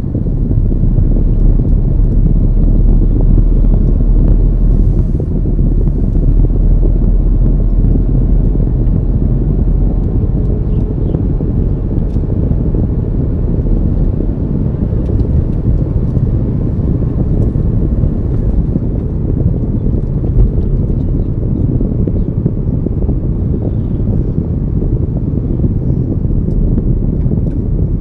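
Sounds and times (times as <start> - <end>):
car road and wind noise: 0.0 - 28.0.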